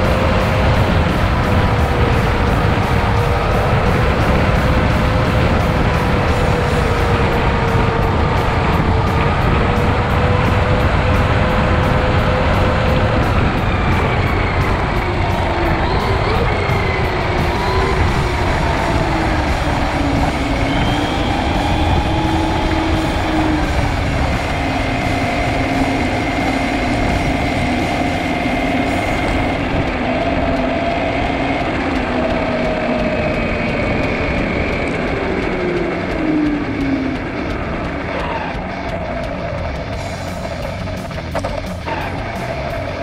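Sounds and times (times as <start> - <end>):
rc truck motor whine: 0.0 - 43.0
tyre and road noise: 0.0 - 43.0.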